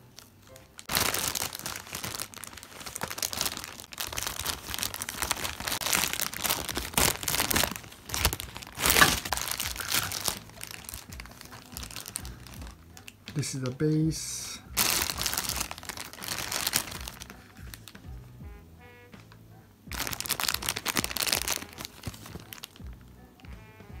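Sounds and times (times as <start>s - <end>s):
plastic packaging crinkling: 0.0s - 13.8s, 14.8s - 18.0s, 19.9s - 23.0s.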